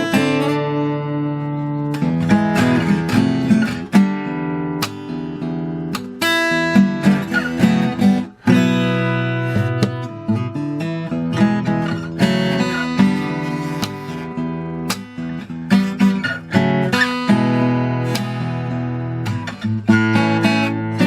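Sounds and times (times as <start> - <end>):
acoustic guitar strumming and picking: 0.0 - 21.0.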